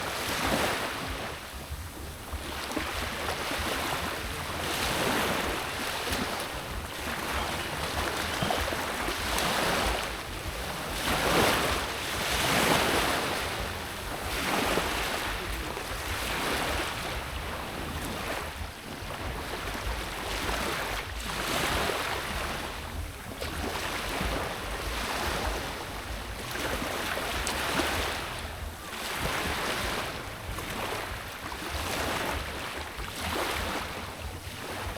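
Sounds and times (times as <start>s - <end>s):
sea waves washing in: 0.0s - 34.9s
wind buffeting microphone: 0.0s - 34.9s.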